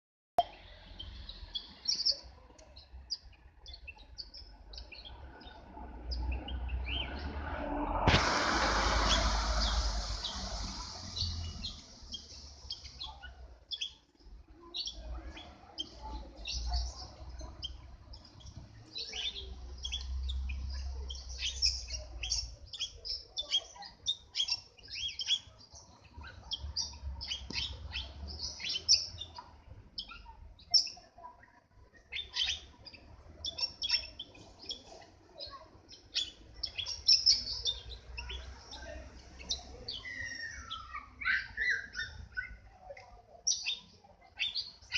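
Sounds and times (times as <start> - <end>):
small birds chirping: 0.4 - 44.9.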